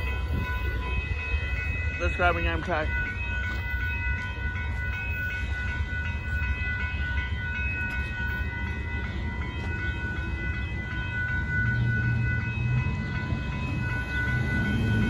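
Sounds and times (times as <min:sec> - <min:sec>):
crossing warning bell ringing: 0:00.0 - 0:15.0.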